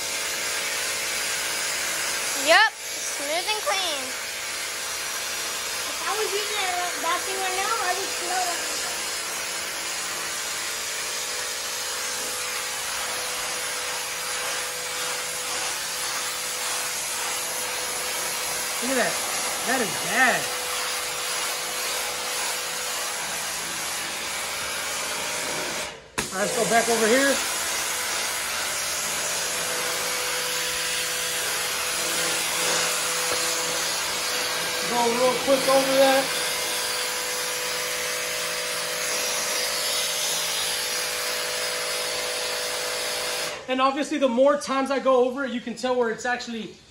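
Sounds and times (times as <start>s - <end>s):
pressure washer spray hissing: 0.0s - 43.6s.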